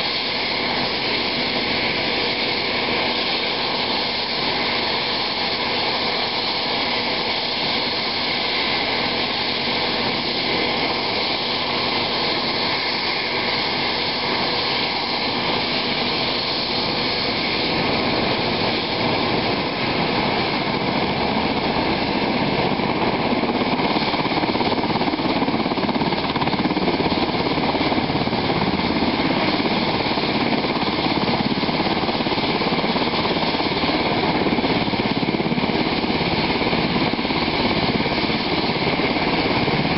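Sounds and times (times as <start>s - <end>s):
helicopter running on ground: 0.0s - 39.9s.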